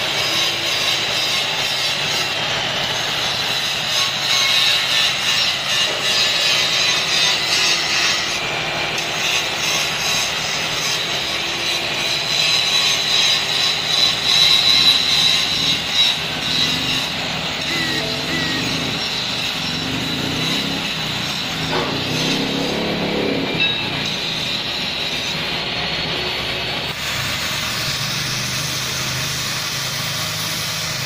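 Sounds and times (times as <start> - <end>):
angle grinder grinding steel: 0.0 - 31.0.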